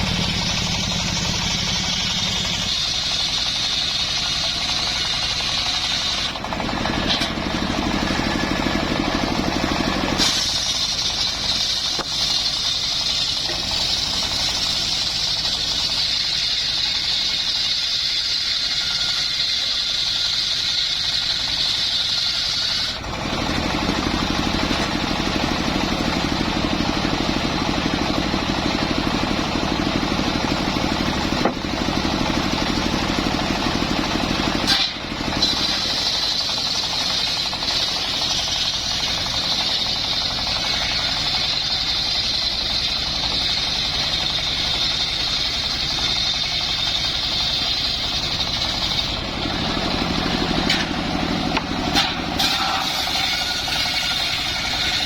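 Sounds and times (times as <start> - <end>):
engine-driven wood saw: 0.0 - 55.0.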